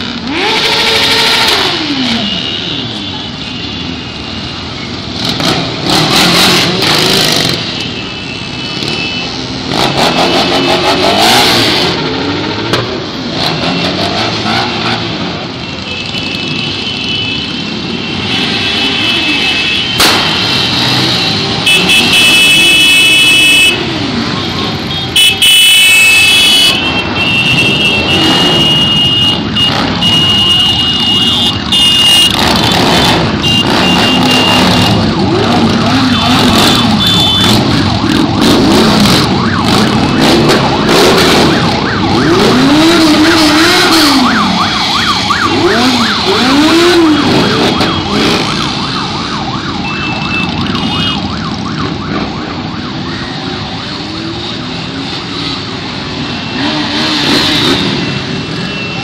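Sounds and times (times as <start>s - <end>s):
motorcycle engines revving: 0.0s - 59.0s
horns sounding: 0.3s - 12.7s, 15.6s - 52.2s.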